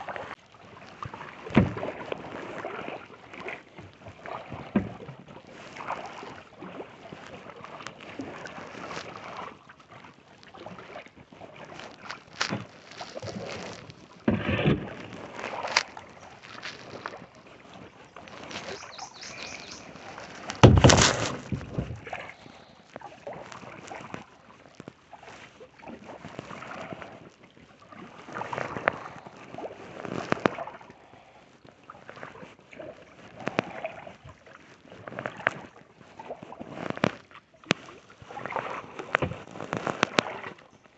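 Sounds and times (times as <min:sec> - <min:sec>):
kayak paddle splashing water: 0:00.0 - 0:40.9.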